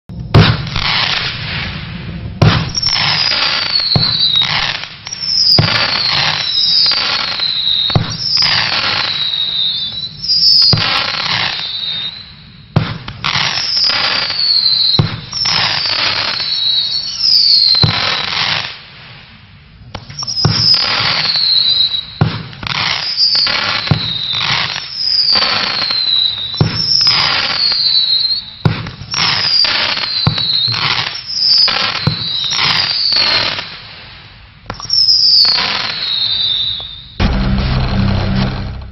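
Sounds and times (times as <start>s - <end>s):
firework battery firing: 0.1s - 12.1s, 12.7s - 18.8s, 20.0s - 33.8s, 34.7s - 38.9s
firework whistle: 0.1s - 18.8s, 19.9s - 33.9s, 34.7s - 38.9s
firework crackling: 0.1s - 38.9s.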